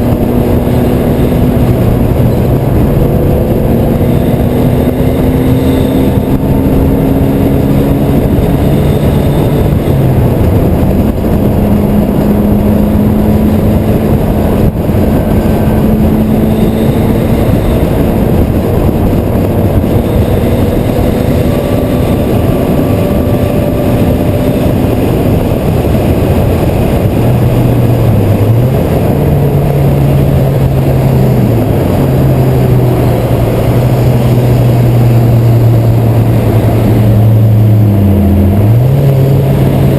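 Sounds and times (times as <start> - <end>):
car engine: 0.0 - 39.9
wind and road noise: 0.0 - 39.9.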